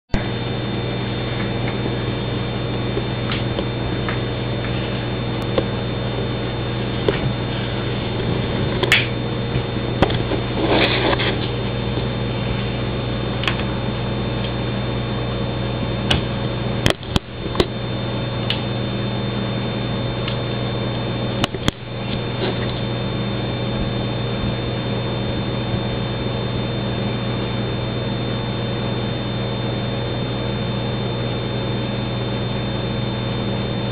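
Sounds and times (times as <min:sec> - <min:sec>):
steady electrical hum: 0:00.1 - 0:33.9.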